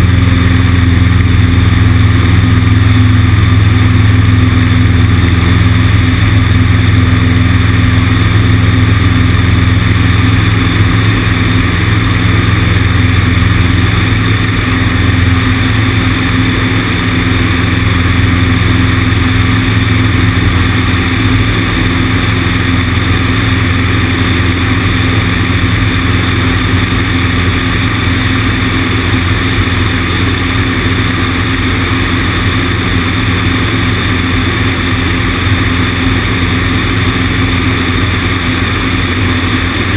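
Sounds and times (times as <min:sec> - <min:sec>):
airplane engine and propeller: 0:00.0 - 0:39.9
heavy wind rush: 0:00.0 - 0:39.9.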